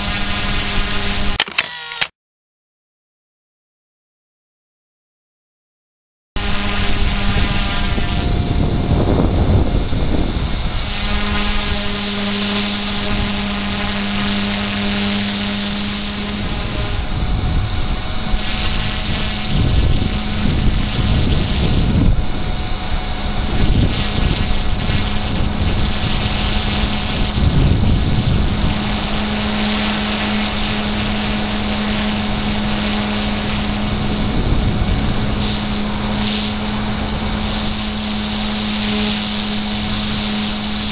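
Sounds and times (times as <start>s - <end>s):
rc helicopter motor whine: 0.0s - 2.1s, 6.4s - 40.9s.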